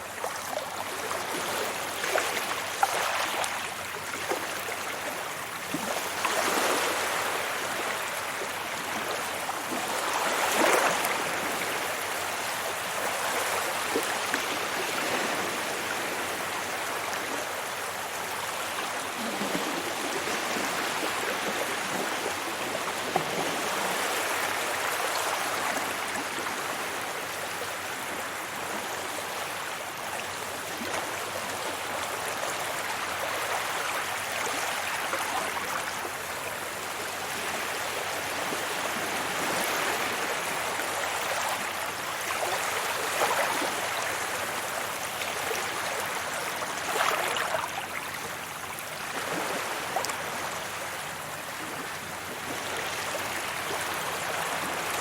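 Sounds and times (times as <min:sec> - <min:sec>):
sea waves washing on beach: 0:00.0 - 0:55.0.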